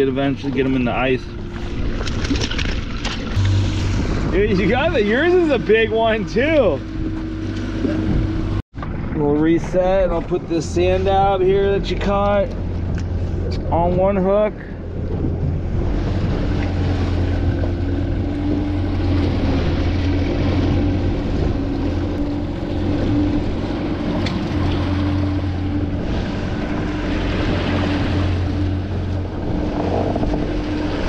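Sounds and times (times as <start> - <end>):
outboard motor running: 0.0 - 31.0.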